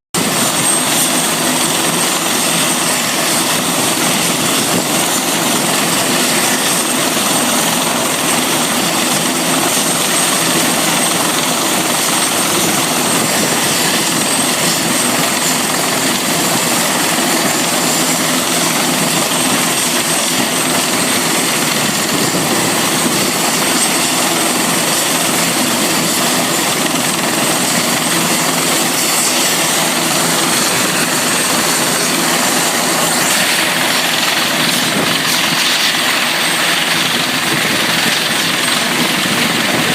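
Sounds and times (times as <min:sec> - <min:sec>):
helicopter rotor and engine: 0:00.1 - 0:39.9.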